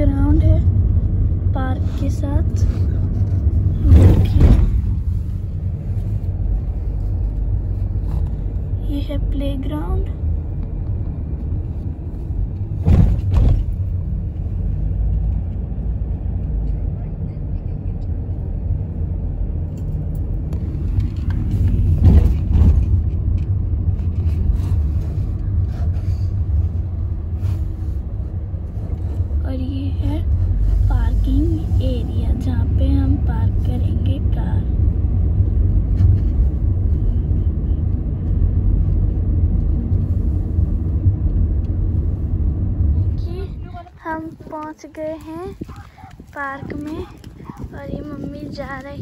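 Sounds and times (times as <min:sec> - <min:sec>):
car interior road and engine rumble: 0:00.0 - 0:49.0.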